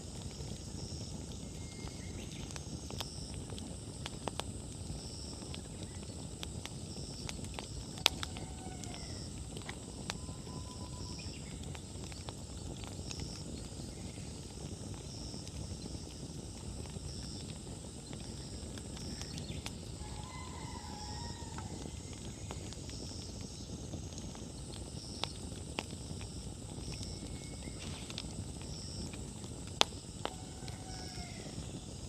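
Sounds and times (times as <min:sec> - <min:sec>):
campfire crackling and popping: 0:00.0 - 0:32.0
high insect trill: 0:00.0 - 0:32.0
insect chirping: 0:00.0 - 0:32.0.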